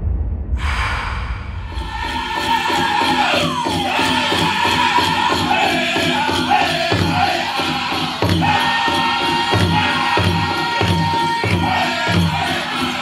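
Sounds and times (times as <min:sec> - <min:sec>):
large drum beats: 0:00.0 - 0:13.0
group singing: 0:01.6 - 0:13.0
bells jingling: 0:02.0 - 0:13.0.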